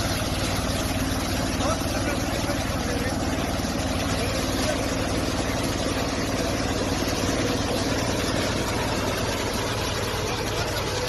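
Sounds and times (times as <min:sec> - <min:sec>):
harvester engine running: 0:00.0 - 0:11.0.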